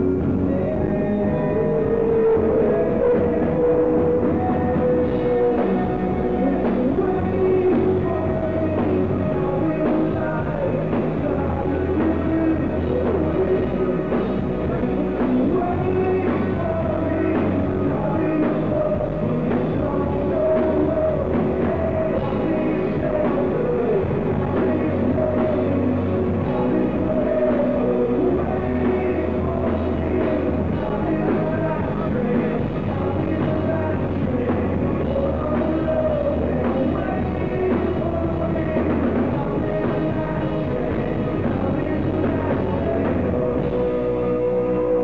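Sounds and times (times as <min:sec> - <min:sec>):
live rock band playing: 0:00.0 - 0:45.0
male vocals: 0:00.0 - 0:45.0.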